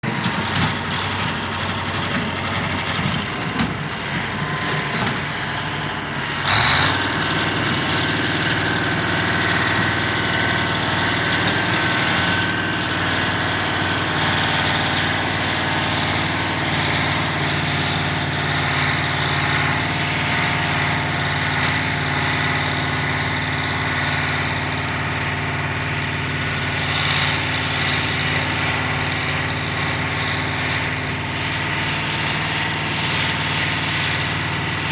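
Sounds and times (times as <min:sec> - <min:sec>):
heavy machine engine running: 0:00.0 - 0:34.9.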